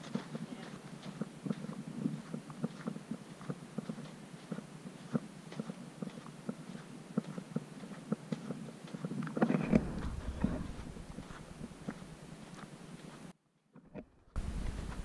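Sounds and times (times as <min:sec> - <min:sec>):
footsteps in soft sand: 0:00.0 - 0:13.4, 0:14.2 - 0:15.0.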